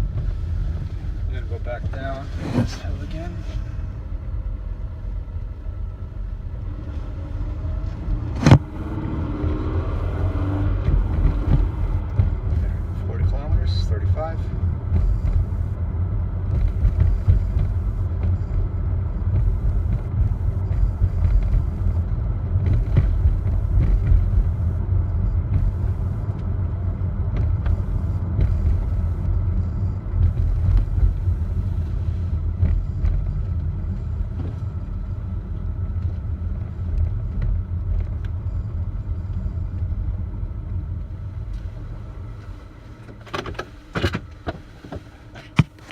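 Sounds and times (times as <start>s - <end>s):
road and tyre rumble: 0.0s - 45.9s.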